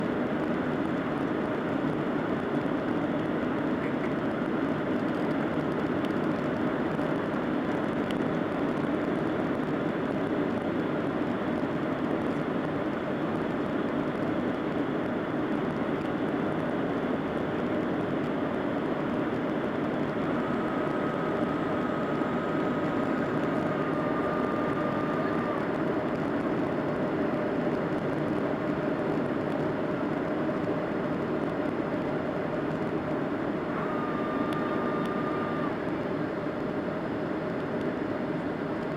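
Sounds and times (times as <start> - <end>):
airplane cabin engine noise: 0.0 - 38.9.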